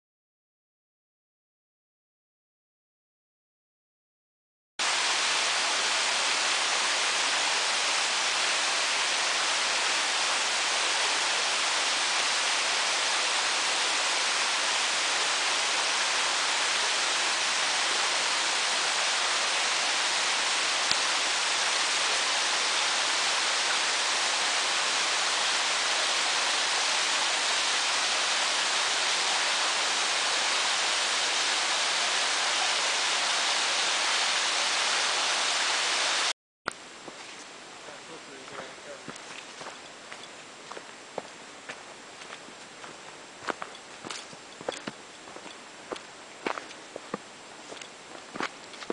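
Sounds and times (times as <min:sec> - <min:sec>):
water rushing in rocky creek: 0:04.8 - 0:36.3, 0:37.0 - 0:48.9.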